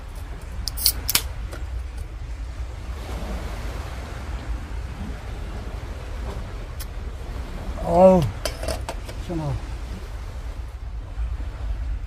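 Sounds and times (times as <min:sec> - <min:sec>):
waves on a pebble beach: 0:00.0 - 0:12.0
wind rumbling on microphone: 0:00.0 - 0:12.0.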